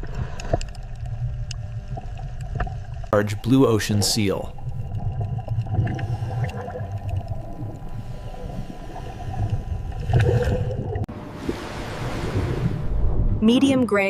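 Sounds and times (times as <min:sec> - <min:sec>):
water noise: 0:00.0 - 0:13.8.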